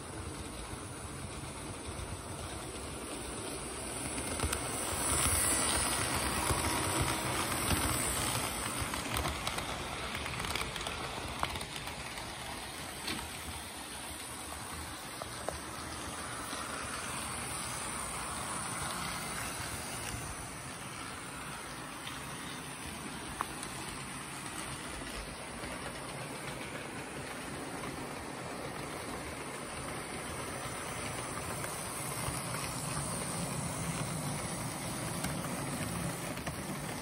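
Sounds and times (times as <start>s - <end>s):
model train motor whirring: 0.0s - 37.0s.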